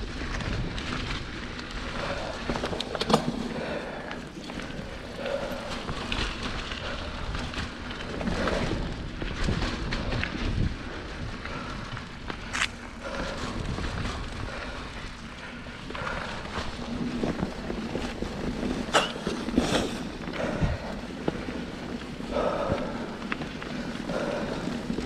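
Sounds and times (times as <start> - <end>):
wind on microphone: 0.0 - 15.2, 15.8 - 23.1
bike tyres rolling on dirt: 0.0 - 25.0.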